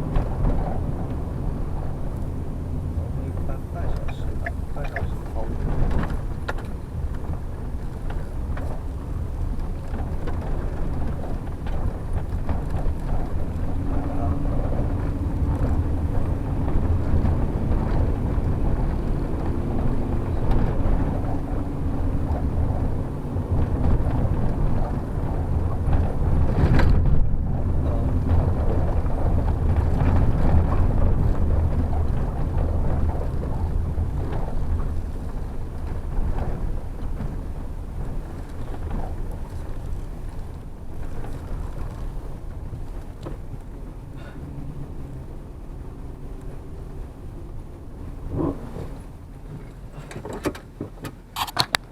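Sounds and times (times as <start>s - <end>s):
road noise: 0.0s - 51.9s
vehicle engine rumble: 0.0s - 51.9s.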